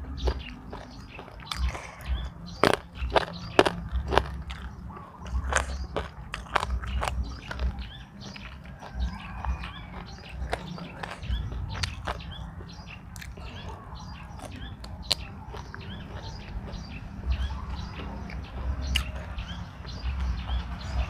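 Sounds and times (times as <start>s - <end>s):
small birds chirping: 0.0s - 21.0s
wind rumbling on microphone: 0.0s - 21.0s.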